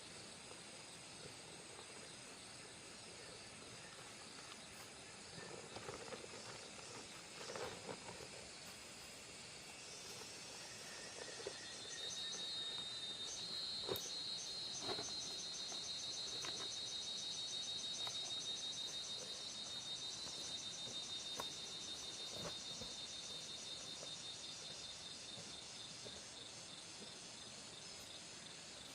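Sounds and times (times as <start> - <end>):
insects chirring: 0.0 - 28.9.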